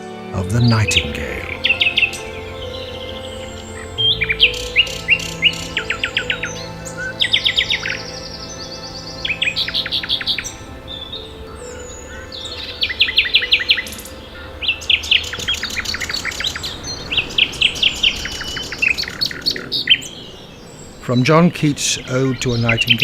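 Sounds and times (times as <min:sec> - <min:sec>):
nightingale singing: 0:00.0 - 0:23.0.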